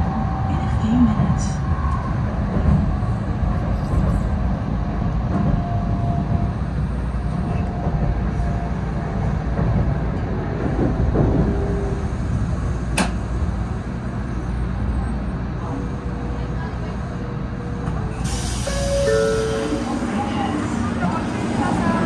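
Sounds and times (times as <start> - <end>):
train low rumble and rushing: 0.0 - 22.0.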